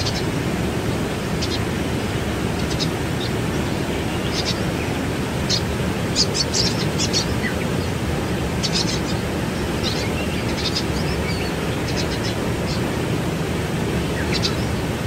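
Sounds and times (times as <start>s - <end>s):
waterfall rushing: 0.0s - 15.0s
small birds chirping: 1.4s - 13.1s, 13.9s - 15.0s.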